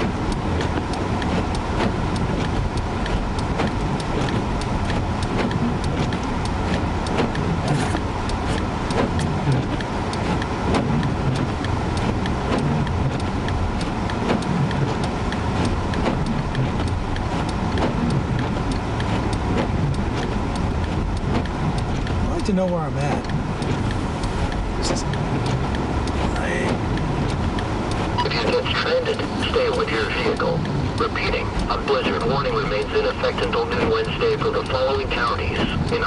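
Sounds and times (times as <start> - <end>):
light ticks: 0.0 - 36.0
vehicle road and engine rumble: 0.0 - 36.0.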